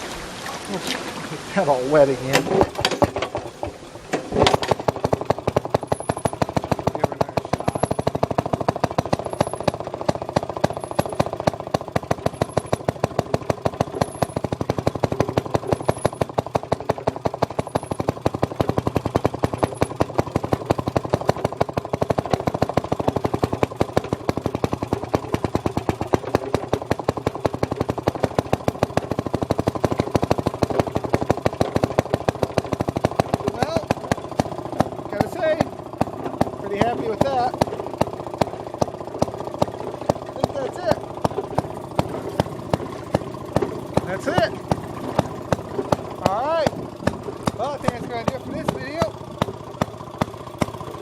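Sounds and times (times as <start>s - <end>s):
two-stroke engine exhaust pops: 2.2s - 51.0s.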